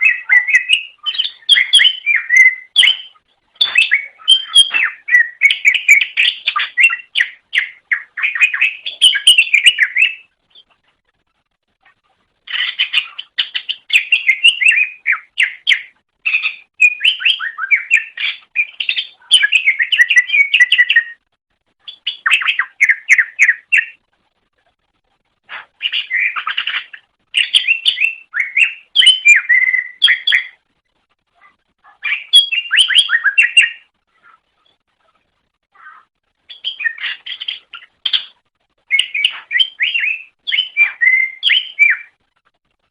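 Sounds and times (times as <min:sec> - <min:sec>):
bird singing chirping warbling: 0:00.0 - 0:10.8, 0:11.8 - 0:21.2, 0:21.8 - 0:24.0, 0:25.5 - 0:30.7, 0:31.4 - 0:42.2.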